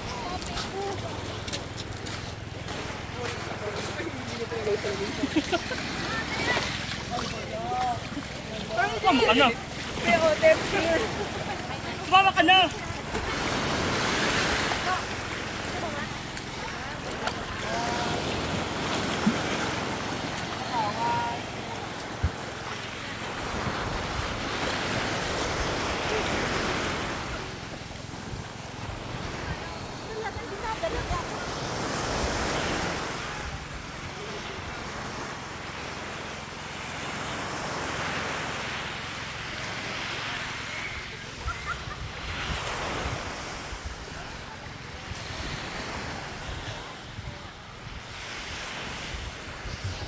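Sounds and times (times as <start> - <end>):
waves washing on beach: 0.0 - 50.0.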